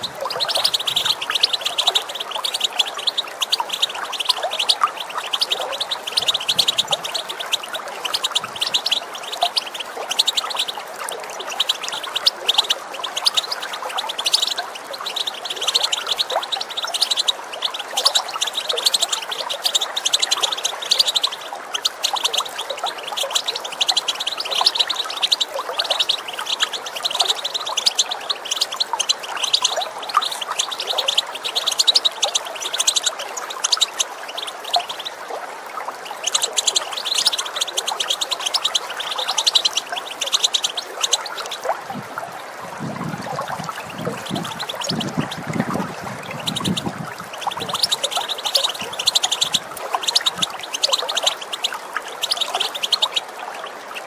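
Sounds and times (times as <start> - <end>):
bird twittering: 0.0 - 35.2, 36.1 - 41.7, 43.5 - 53.3
running water: 0.0 - 54.0
water gurgling: 0.0 - 54.0.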